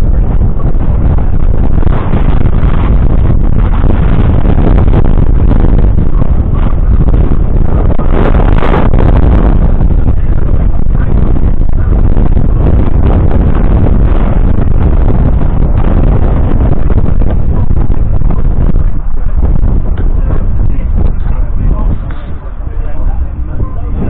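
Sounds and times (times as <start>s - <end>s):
diesel engine rumbling: 0.0s - 24.0s
wind buffeting microphone: 0.0s - 24.0s.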